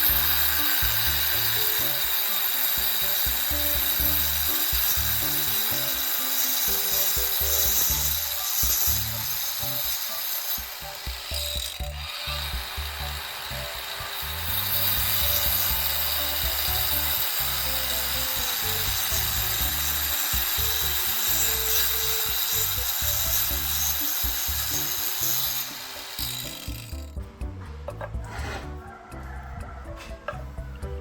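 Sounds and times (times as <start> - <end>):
angle grinder cutting wood: 0.0 - 27.2.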